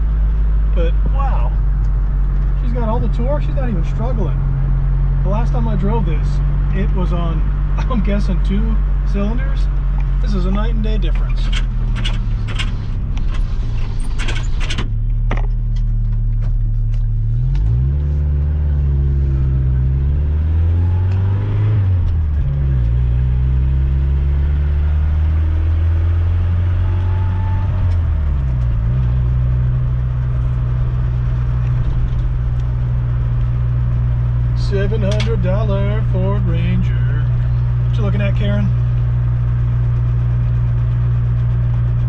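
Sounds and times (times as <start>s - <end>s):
pickup engine accelerating: 0.0s - 42.0s.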